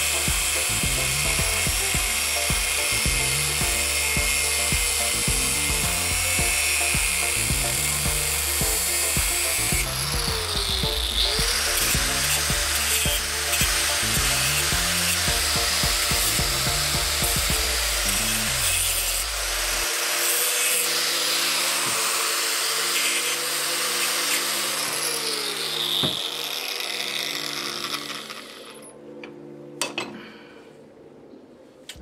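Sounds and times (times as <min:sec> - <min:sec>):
angle grinder cutting steel: 0:00.0 - 0:28.9
grinder spinning down: 0:00.0 - 0:28.9.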